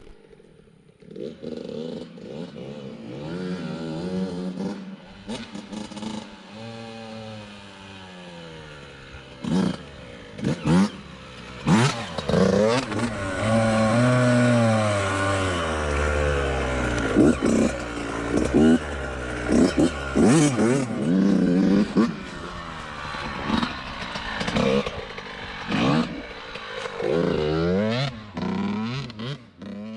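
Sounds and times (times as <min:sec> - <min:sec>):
dirt bike engine revving: 0:01.0 - 0:29.9.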